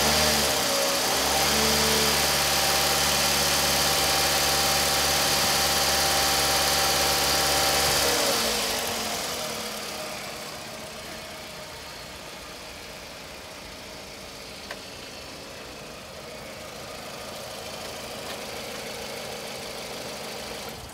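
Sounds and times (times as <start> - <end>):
car engine revving then idling: 0.0 - 20.9.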